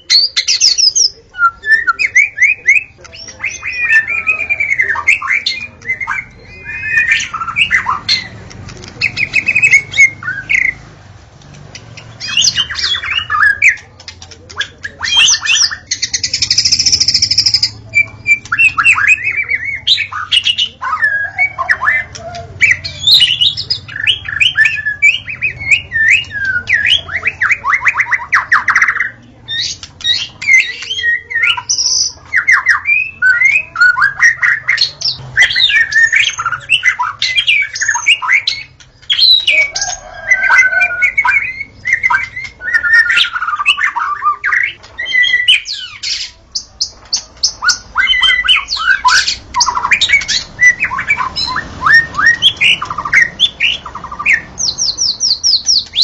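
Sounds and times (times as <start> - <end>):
bird singing whistles and trills: 0.0 - 8.3, 14.6 - 56.0.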